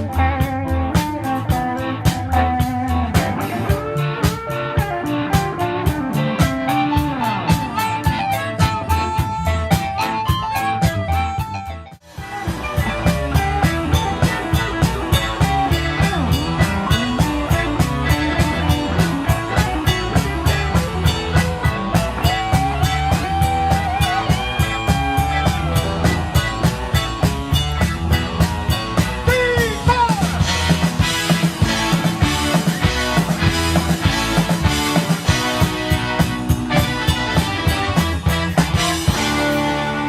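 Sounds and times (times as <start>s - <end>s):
bass guitar: 0.0s - 40.0s
drum kit fast beat: 0.0s - 40.0s
lead guitar bending notes: 0.0s - 40.0s.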